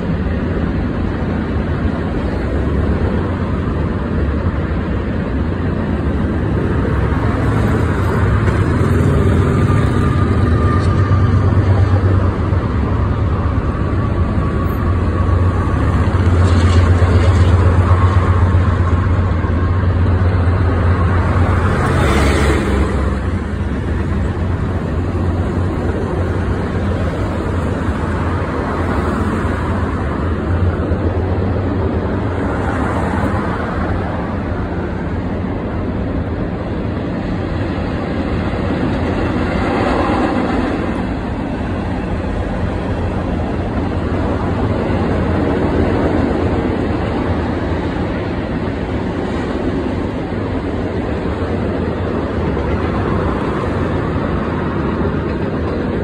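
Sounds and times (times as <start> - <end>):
diesel locomotive drone: 0.0 - 56.0
train wheels rumbling on rails: 0.0 - 56.0.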